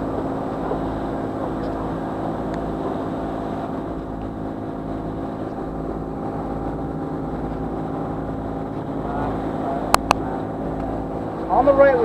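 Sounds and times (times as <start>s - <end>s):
boat diesel engine humming: 0.0s - 12.0s.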